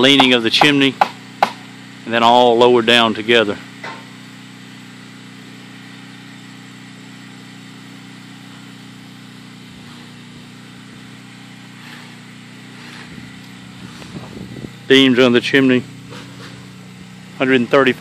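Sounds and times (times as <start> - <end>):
engine droning steadily: 0.0 - 18.0.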